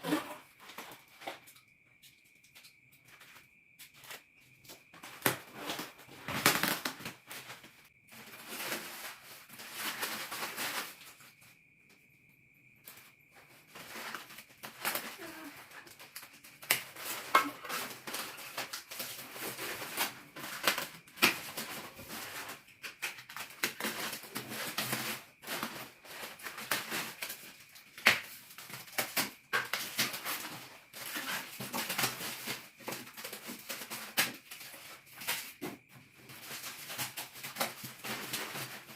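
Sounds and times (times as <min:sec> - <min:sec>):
packaging rustling and crinkling: 0:03.1 - 0:11.4, 0:12.9 - 0:38.9.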